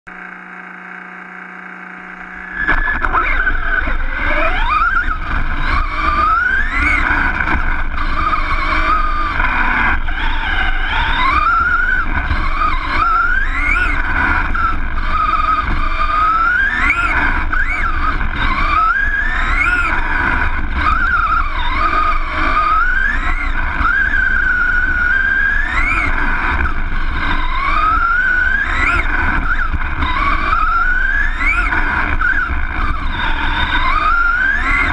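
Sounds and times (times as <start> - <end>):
electric motor whine: 0.1 - 34.9
rumble of tyres on dirt: 0.1 - 34.9.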